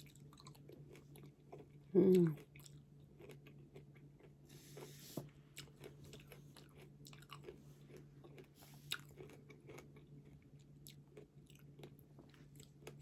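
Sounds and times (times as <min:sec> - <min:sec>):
chewing strawberries: 0:00.0 - 0:13.0.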